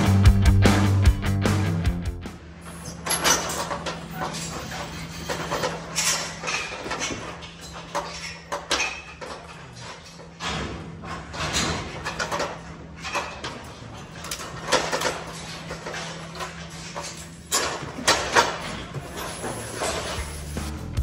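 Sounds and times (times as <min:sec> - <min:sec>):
metal clanks and rattles: 0:02.7 - 0:21.0.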